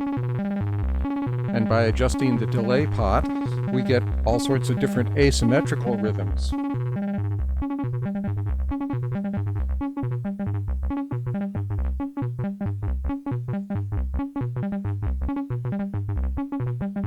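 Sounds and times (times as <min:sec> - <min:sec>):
synthesizer sequenced pattern: 0:00.0 - 0:17.0.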